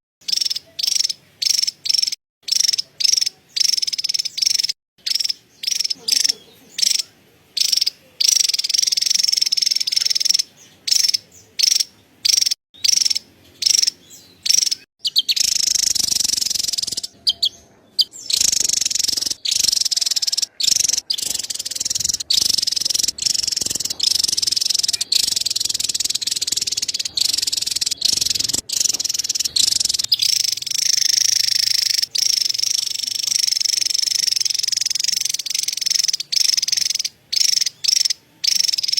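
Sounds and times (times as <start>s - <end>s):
bird high-pitched chattering call: 0.2s - 38.9s.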